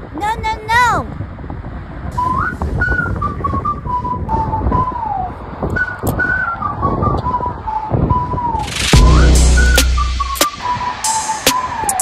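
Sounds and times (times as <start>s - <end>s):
whistled melody: 2.2s - 12.0s.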